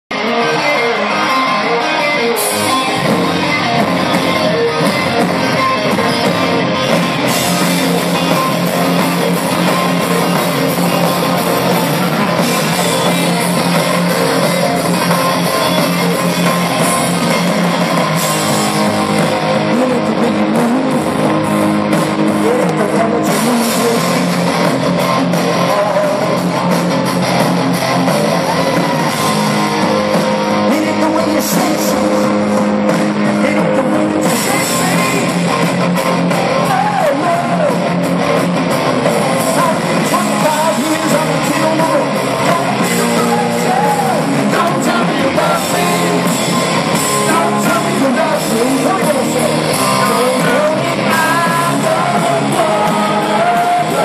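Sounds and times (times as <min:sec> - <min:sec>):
rock band playing live: 0:00.1 - 0:54.0
lead singing: 0:00.2 - 0:27.1, 0:27.7 - 0:35.7, 0:38.9 - 0:54.0.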